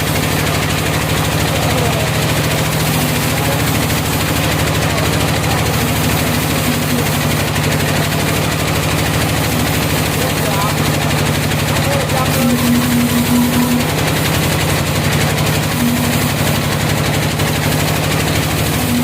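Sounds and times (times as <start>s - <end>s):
sawmill engine running: 0.0s - 19.0s.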